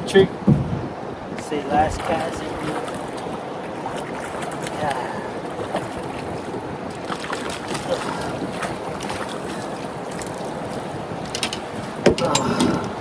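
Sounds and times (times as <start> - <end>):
river water washing against boat: 0.0 - 13.0
wind buffeting microphone: 0.0 - 13.0.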